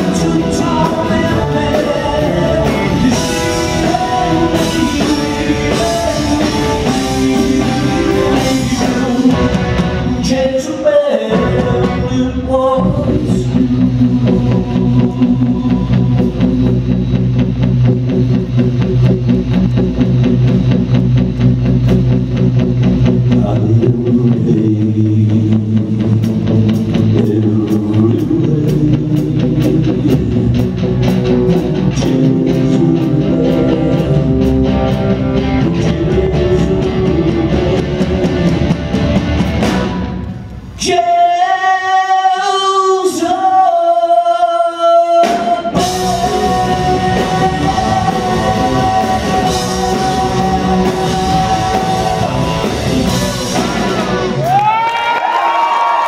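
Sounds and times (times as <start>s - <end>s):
man singing: 0.0s - 16.8s, 23.2s - 30.8s, 31.4s - 38.9s, 40.8s - 54.2s
live rock band playing: 0.0s - 41.0s, 44.8s - 56.0s.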